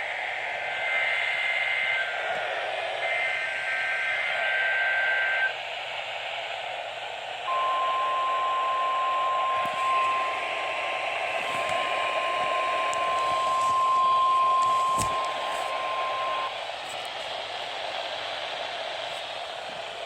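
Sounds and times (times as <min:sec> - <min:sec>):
radio static: 0:00.0 - 0:20.0.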